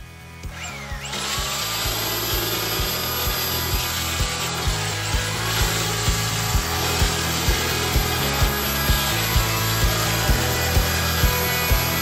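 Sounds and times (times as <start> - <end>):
grinder grinding glass: 0.0 - 12.0
background music with beat: 2.0 - 12.0.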